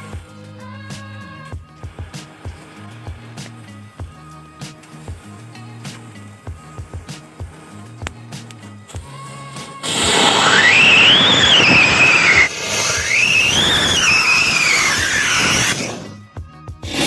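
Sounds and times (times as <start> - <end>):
firework spraying hiss and whistle: 0.0 - 17.0.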